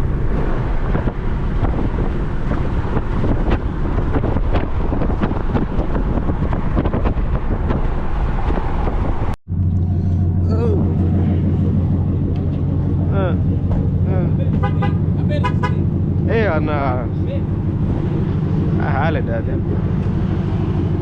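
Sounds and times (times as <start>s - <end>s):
low vehicle rumble: 0.0s - 21.0s
wind buffeting microphone: 0.0s - 21.0s.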